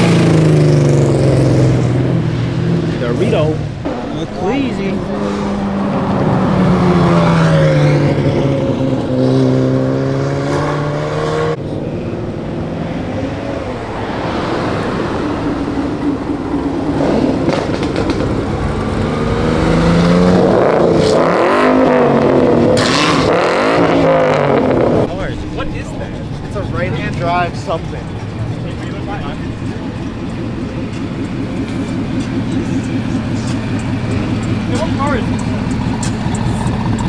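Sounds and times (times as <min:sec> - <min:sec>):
sports car engines revving: 0:00.0 - 0:37.0.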